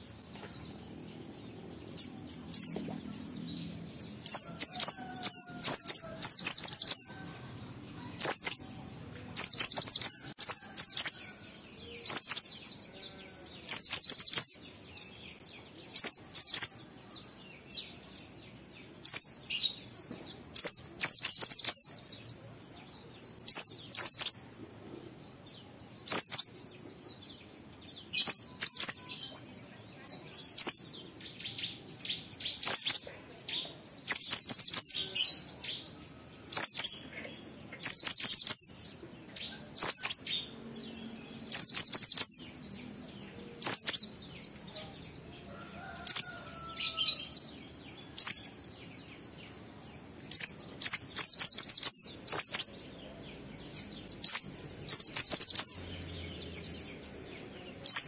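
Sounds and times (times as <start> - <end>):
bird high-pitched chirping song: 0.0 - 24.6, 25.2 - 58.0.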